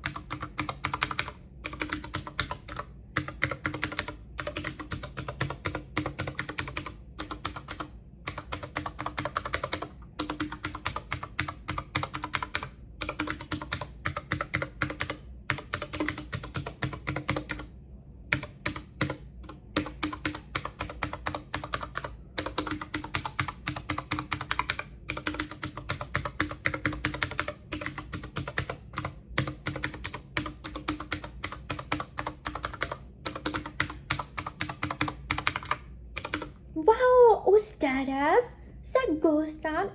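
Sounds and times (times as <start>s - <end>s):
typing on computer keyboard: 0.0s - 17.7s, 18.3s - 36.6s.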